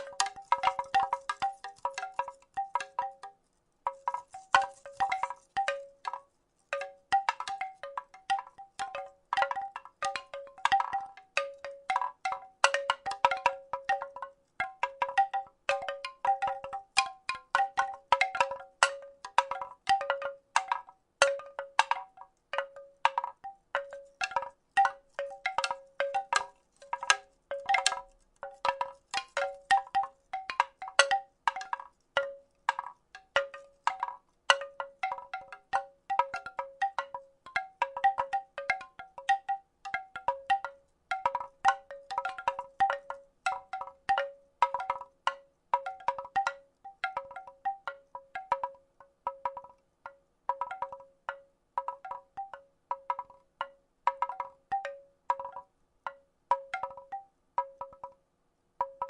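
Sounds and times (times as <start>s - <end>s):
wooden rattle clacking: 0.0s - 58.2s.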